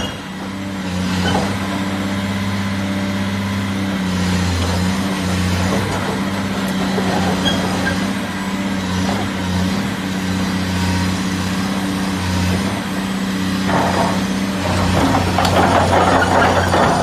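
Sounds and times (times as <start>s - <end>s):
clattering mechanical noise: 0.0s - 2.2s, 4.2s - 17.0s
excavator diesel engine running: 0.0s - 17.0s.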